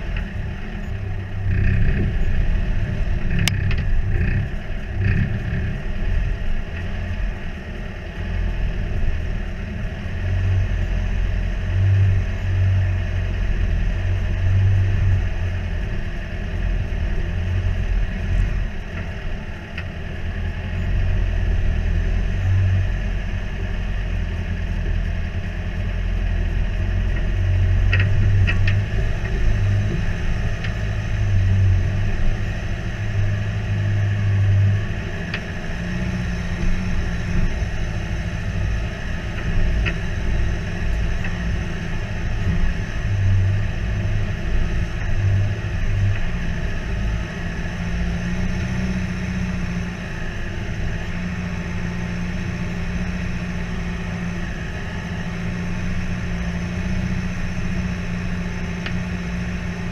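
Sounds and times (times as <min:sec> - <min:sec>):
vehicle engine at low revs: 0:00.0 - 0:59.9.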